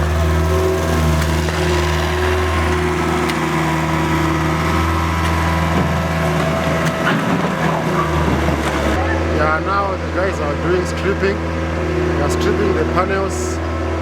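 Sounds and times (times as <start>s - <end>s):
construction machinery engine running: 0.0s - 14.0s.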